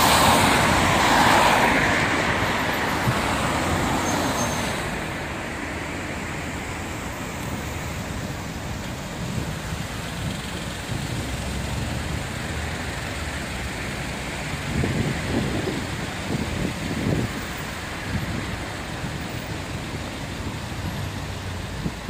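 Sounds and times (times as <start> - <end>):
passing cars road noise: 0.0 - 22.0.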